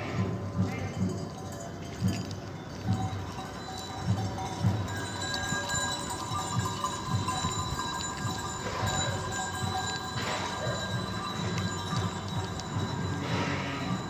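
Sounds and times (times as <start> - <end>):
chime-like music tones: 0.6 - 14.0.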